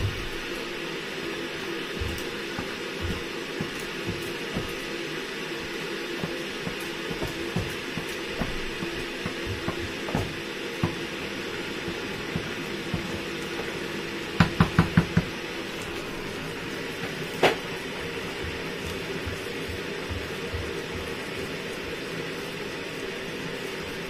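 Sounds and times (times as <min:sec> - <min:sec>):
steady hum: 0:00.0 - 0:24.0
wooden spoon working dough: 0:01.6 - 0:24.0.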